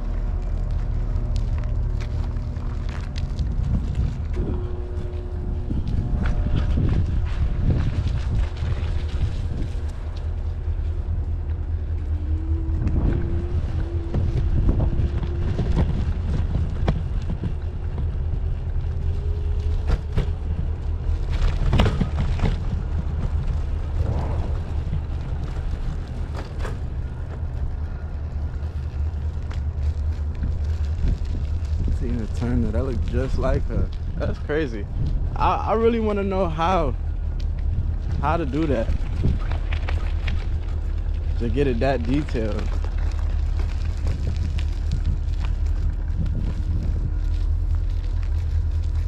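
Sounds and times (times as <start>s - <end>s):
faint motor whine: 0.0s - 49.0s
wind rumble on microphone: 0.0s - 49.0s.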